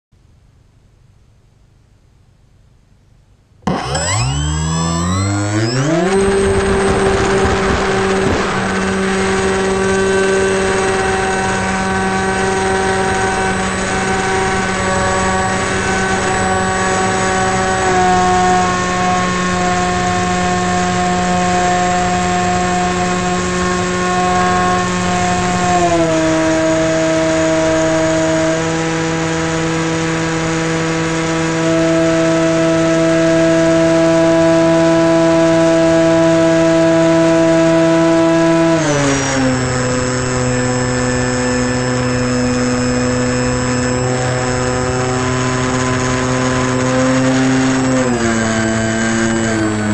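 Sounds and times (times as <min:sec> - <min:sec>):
model plane motor buzzing: 0:03.6 - 0:49.9.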